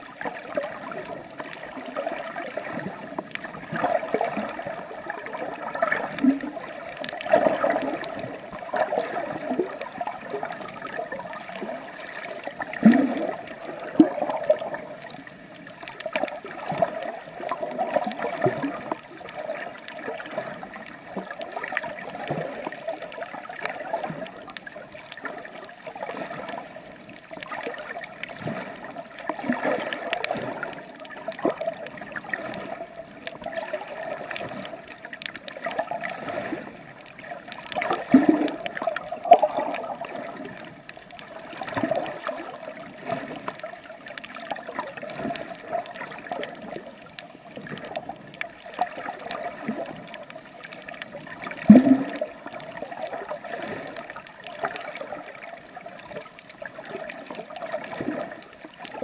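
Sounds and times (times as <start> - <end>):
sea water gurgling and sloshing: 0.0 - 59.0
water gushing: 0.0 - 59.0.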